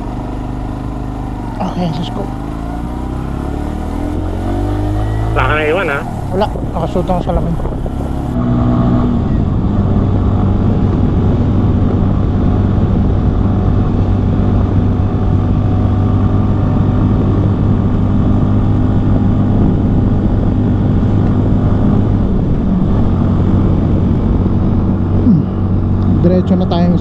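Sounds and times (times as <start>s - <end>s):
road noise rushing: 0.0s - 27.0s.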